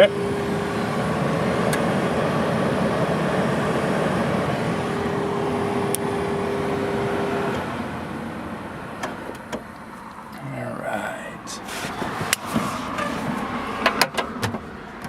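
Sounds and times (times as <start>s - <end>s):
heater blower fan running: 0.0s - 15.0s.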